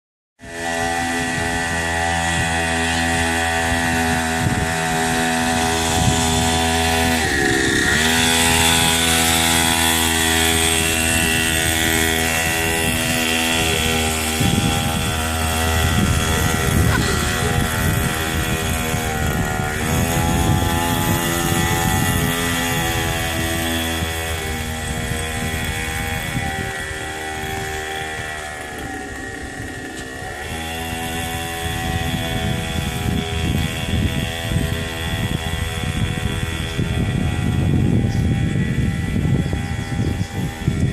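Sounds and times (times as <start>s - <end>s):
small motorbike engine running: 0.4s - 40.9s.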